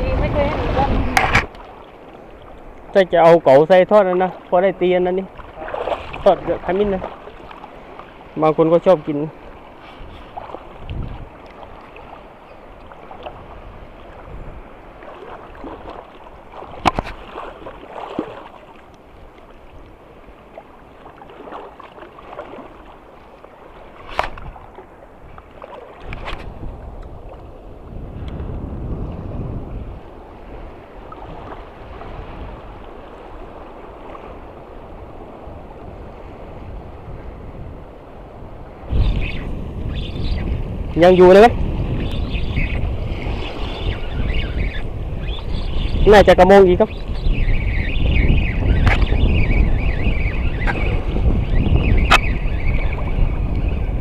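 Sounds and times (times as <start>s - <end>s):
sea water lapping and sloshing: 0.0s - 54.0s
wind on microphone: 0.0s - 54.0s.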